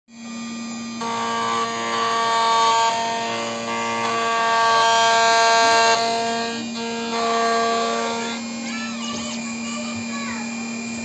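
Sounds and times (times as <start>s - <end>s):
key-cutting machine motor whine: 0.1s - 11.0s.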